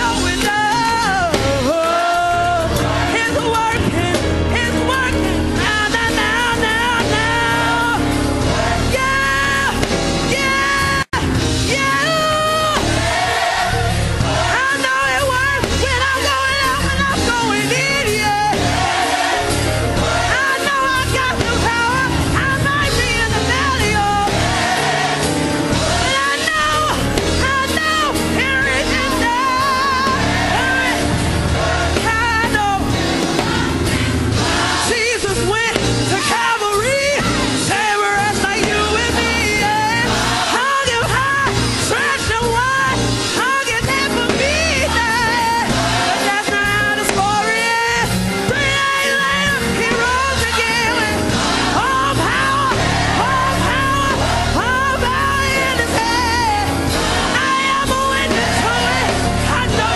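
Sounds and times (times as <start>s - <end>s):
gospel choir singing: 0.0s - 59.9s
instrumental accompaniment: 0.0s - 59.9s.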